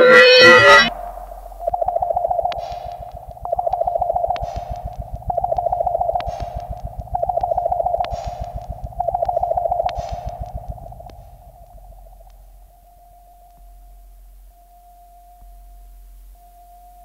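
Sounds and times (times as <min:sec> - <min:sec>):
fast low ticking: 0:00.0 - 0:14.5
pulsing electronic tone: 0:00.0 - 0:17.0.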